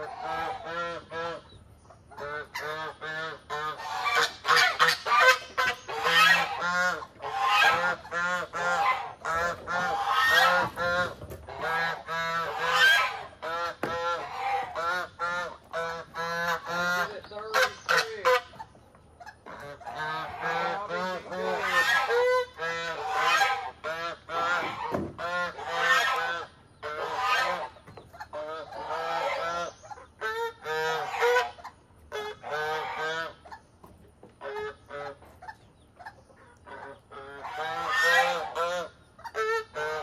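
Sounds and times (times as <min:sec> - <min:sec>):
geese honking: 0:00.0 - 0:33.7, 0:34.3 - 0:40.0.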